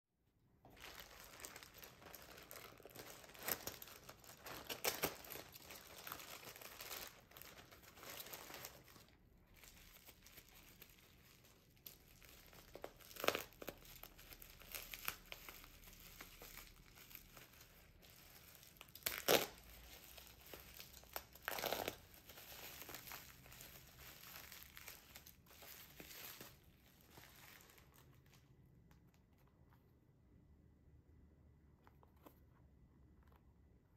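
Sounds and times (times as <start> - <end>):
plastic wrapping crinkling: 0.5 - 29.5
plastic ripping: 0.7 - 28.4.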